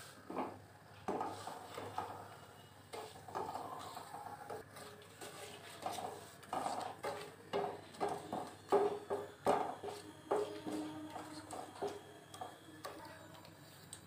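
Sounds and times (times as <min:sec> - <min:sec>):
spatula scraping and tapping wok: 0:00.0 - 0:13.0.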